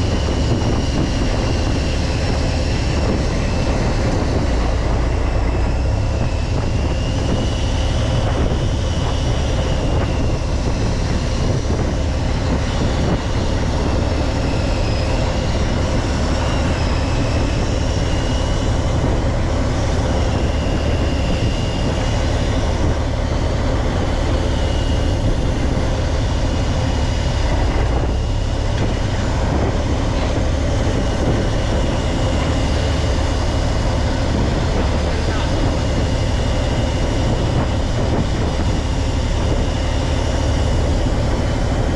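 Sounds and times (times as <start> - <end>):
boat engine rumbling: 0.0 - 41.9
faint wavering high whine: 0.0 - 41.9.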